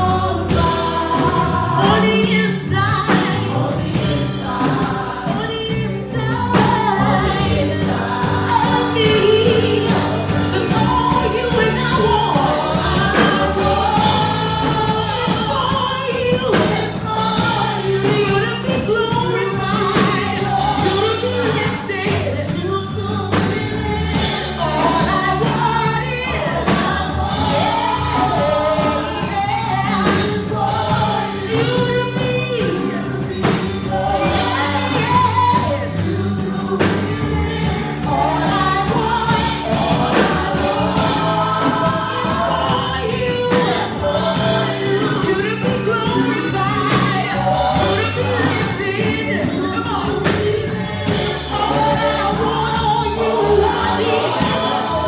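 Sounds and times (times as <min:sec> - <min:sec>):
gospel singing with band: 0:00.0 - 0:55.0.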